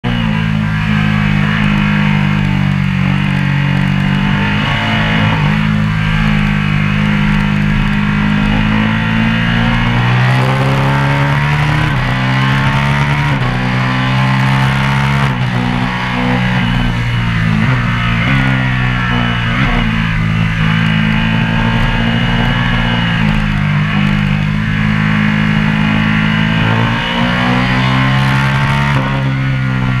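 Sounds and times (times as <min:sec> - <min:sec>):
guitar: 0:00.0 - 0:30.0
steady bass line: 0:00.0 - 0:30.0.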